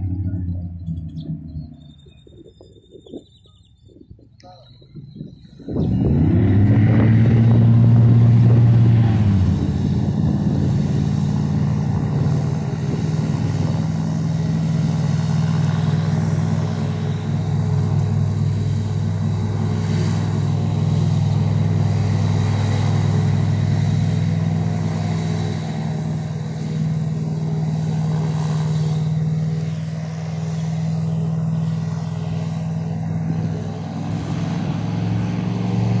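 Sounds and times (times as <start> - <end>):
airboat engine and propeller revving: 0.0 - 3.7, 4.9 - 36.0.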